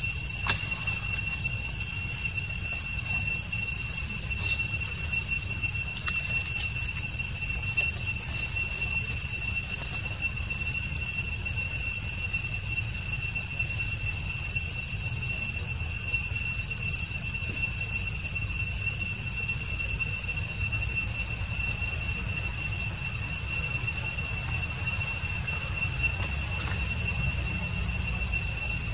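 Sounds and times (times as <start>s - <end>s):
high-pitched insect drone: 0.0s - 28.9s.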